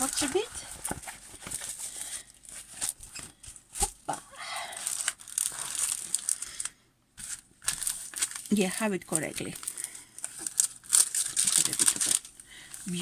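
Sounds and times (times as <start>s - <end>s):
plastic crinkling and crackling: 0.0s - 13.0s.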